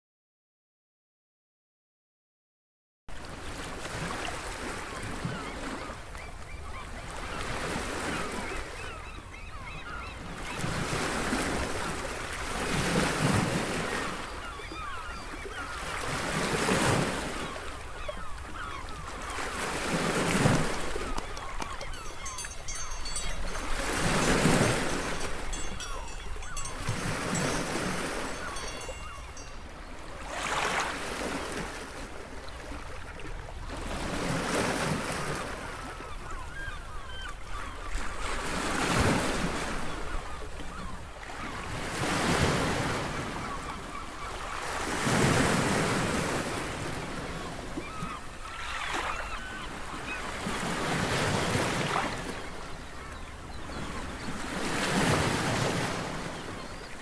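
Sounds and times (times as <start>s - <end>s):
sea waves breaking on shore: 3.1s - 57.0s.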